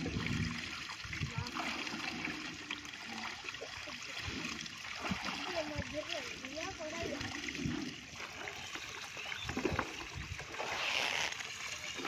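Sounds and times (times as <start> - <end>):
small ticks and splashes: 0.0 - 12.0
water trickling and gurgling: 0.0 - 12.0.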